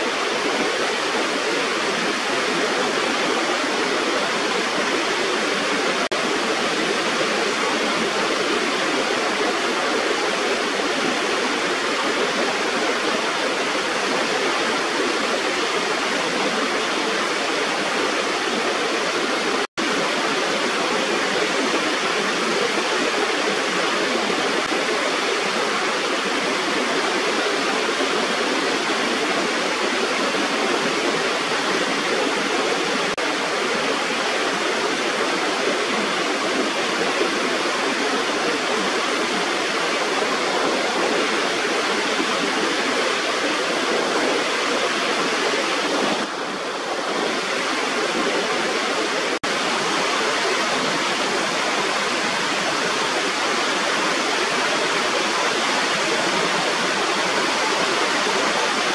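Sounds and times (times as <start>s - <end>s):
small waterfall rushing: 0.0s - 58.9s.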